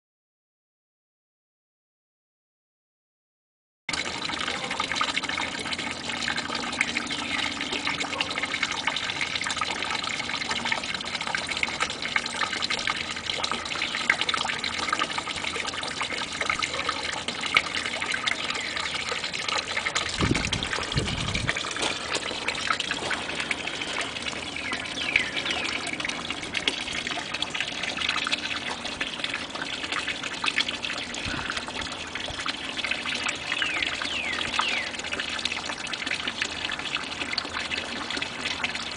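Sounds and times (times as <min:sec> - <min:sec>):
water trickling into pond: 0:03.9 - 0:38.9.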